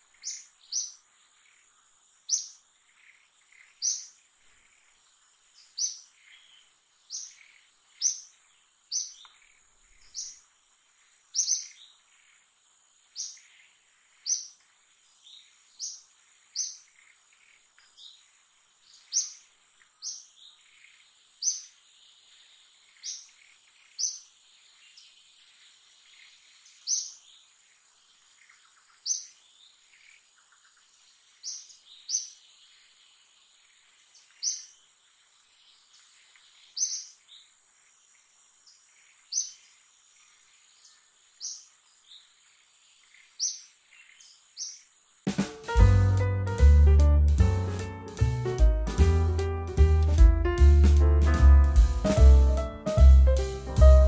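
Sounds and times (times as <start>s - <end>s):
bird chirping: 0.0s - 10.5s, 11.3s - 12.4s, 13.1s - 34.8s, 35.6s - 54.0s.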